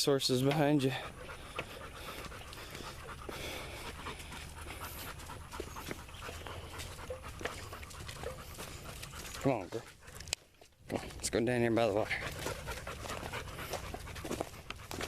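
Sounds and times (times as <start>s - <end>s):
dog panting: 0.4s - 15.0s.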